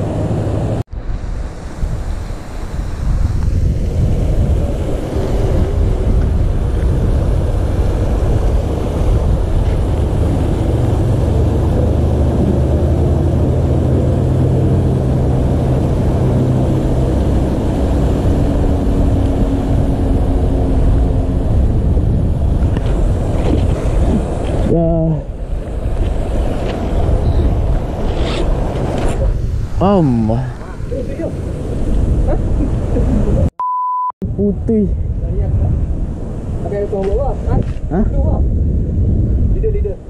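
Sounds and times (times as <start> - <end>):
wind buffeting microphone: 0.0 - 33.5, 34.2 - 40.0.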